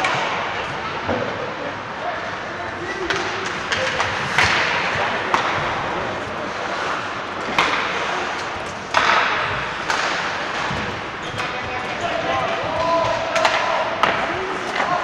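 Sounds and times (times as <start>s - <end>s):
arena noise: 0.0s - 15.0s
hockey sticks clacking on puck: 2.7s - 15.0s
skate blades scraping ice: 2.8s - 15.0s.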